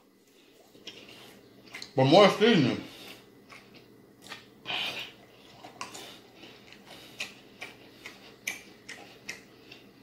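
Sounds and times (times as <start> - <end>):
open-mouthed wet chewing: 0.2 - 2.0, 2.8 - 10.0.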